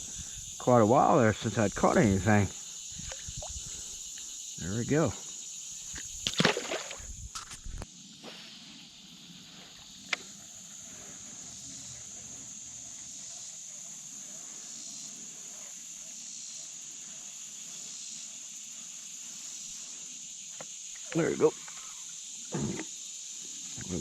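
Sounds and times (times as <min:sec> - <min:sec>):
insects chirping chorus: 0:00.0 - 0:24.0.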